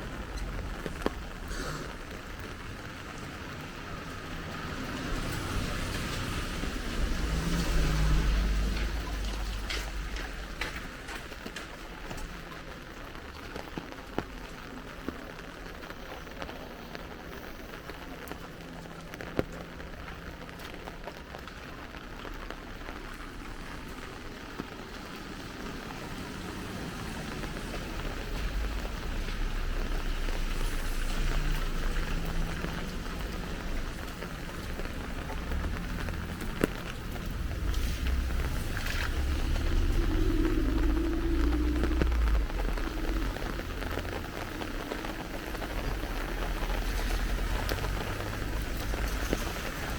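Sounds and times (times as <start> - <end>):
light rain on an umbrella: 0.0 - 49.9
street traffic rumble: 0.0 - 49.9.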